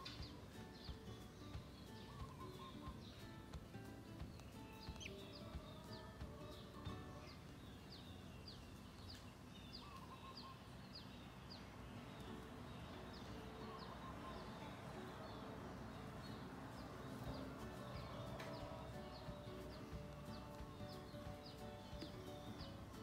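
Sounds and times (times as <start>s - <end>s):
duckling peeping: 1.6s - 3.3s, 4.2s - 23.0s.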